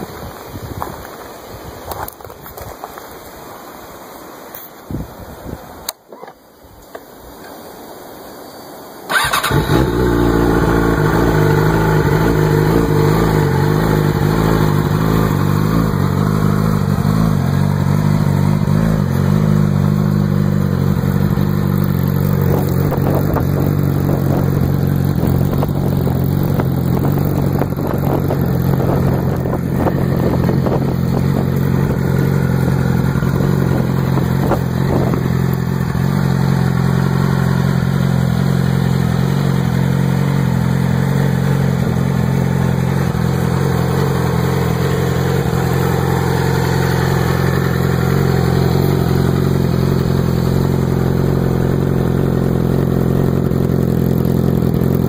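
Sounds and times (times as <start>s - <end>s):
motorcycle engine starting and idling: 9.1s - 55.0s.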